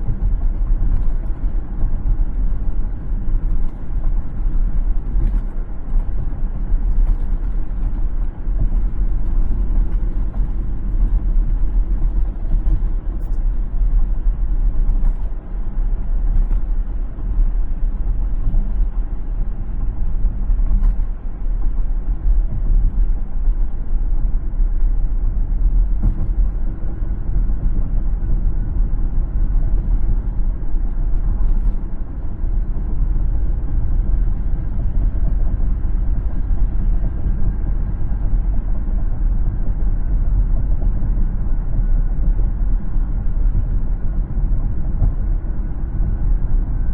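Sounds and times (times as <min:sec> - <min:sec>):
car engine and tyres rumbling: 0:00.0 - 0:46.9.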